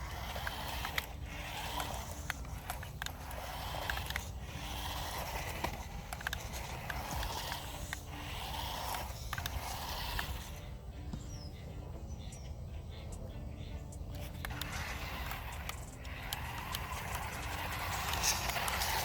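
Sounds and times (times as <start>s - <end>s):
clicks and scrapes: 0.0s - 10.7s, 14.1s - 19.0s
toy car motor whining: 0.0s - 11.0s, 14.0s - 19.0s.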